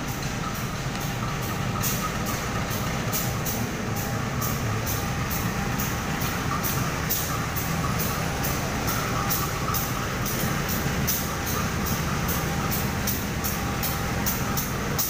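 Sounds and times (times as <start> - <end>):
diesel locomotive engine running: 0.0 - 15.0
sharp high ticks: 0.1 - 15.0.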